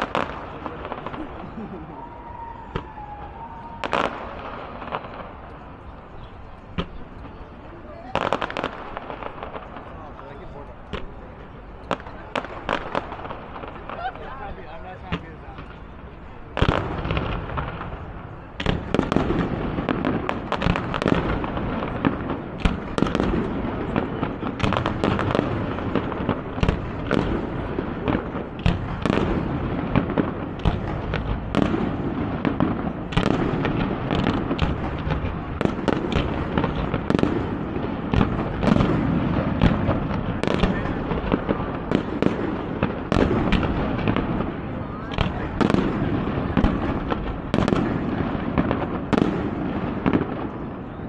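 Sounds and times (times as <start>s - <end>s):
fireworks bangs and pops: 0.0s - 2.0s, 2.7s - 51.0s.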